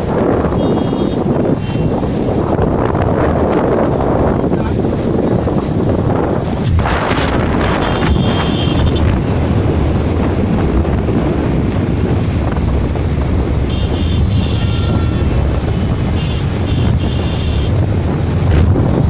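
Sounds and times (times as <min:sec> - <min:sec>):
vehicle rumble on road: 0:00.0 - 0:19.0
wind buffeting microphone: 0:00.0 - 0:19.0.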